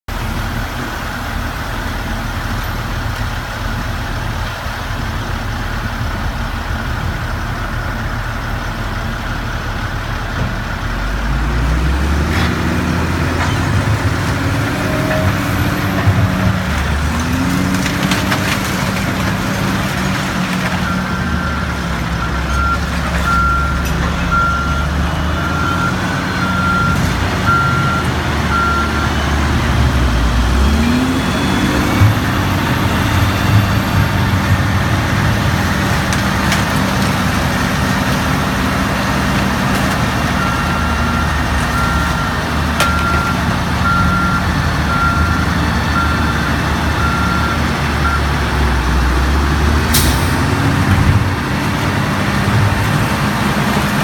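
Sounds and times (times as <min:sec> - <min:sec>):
diesel truck engine running: 0:00.1 - 0:54.0.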